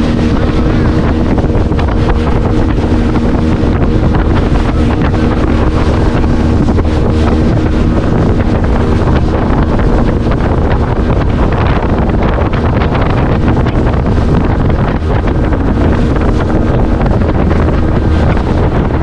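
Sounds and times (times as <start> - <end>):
speedboat engine running: 0.0 - 19.0
wind buffeting microphone: 0.0 - 19.0.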